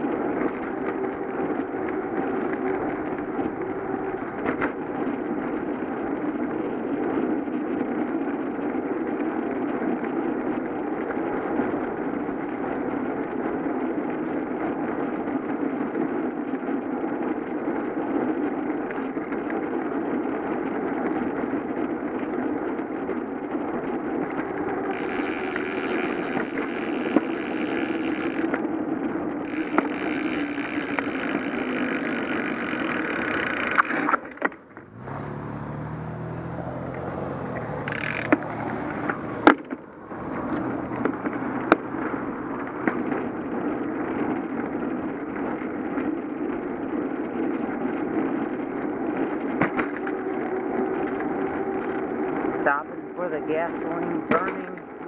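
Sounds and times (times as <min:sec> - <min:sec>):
wind and tyre rush: 0:00.0 - 0:55.0.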